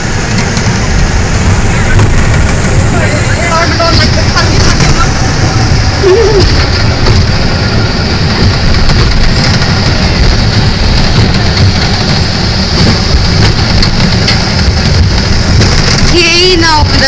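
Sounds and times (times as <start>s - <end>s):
amusement ride rumble and rush: 0.0s - 17.0s.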